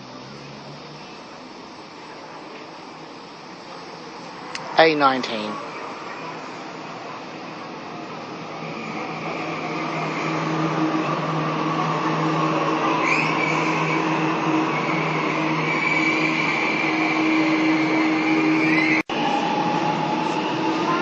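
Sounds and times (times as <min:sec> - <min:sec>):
electric train motor whine: 0:00.0 - 0:21.0.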